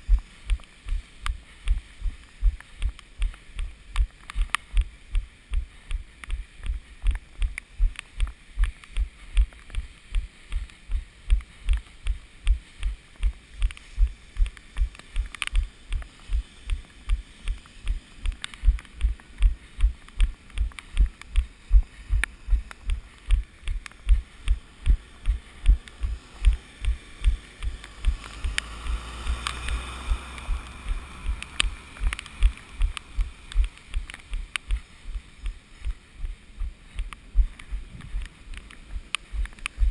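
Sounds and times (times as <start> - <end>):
running footfalls: 0.0 - 38.3
rushing noise: 0.0 - 39.9.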